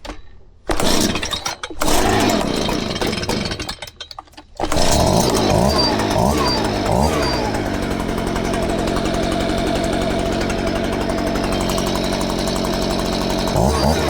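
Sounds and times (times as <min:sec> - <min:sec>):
leaf blower engine starting: 0:00.7 - 0:03.8, 0:04.6 - 0:14.0.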